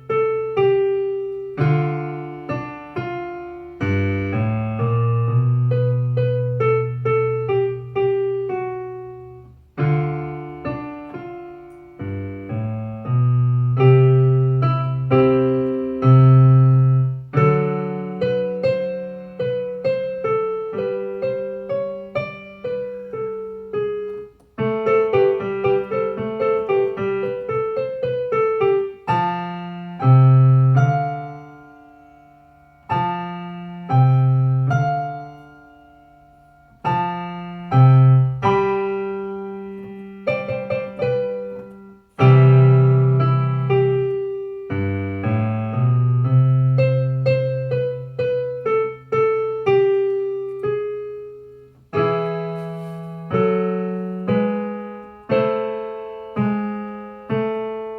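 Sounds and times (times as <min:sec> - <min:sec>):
solo piano playing: 0:00.0 - 0:57.9.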